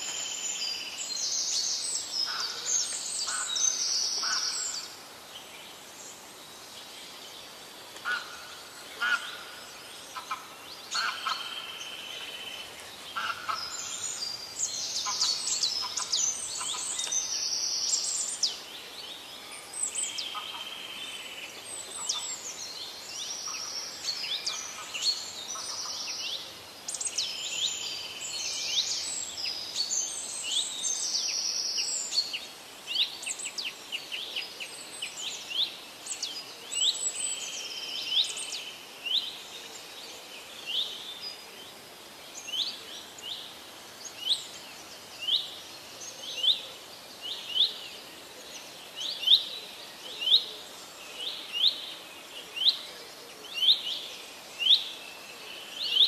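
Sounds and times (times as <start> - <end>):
birds chirping: 0.0 - 52.8.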